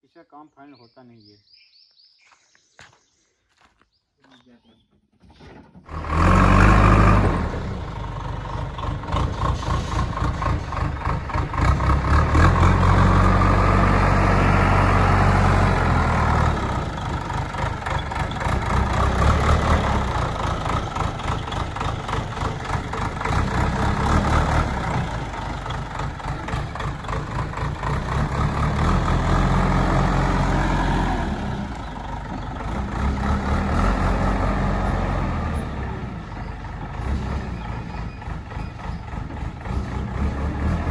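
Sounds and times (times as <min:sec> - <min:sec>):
diesel engine revving: 0:05.9 - 0:40.9.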